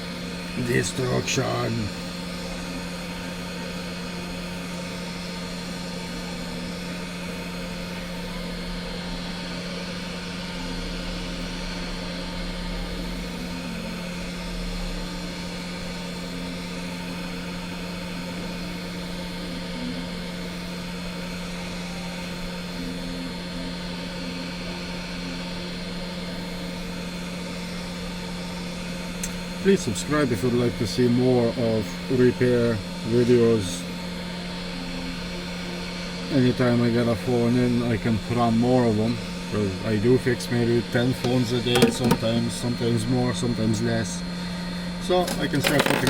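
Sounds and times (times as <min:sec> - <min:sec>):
electric blower humming: 0:00.0 - 0:46.0.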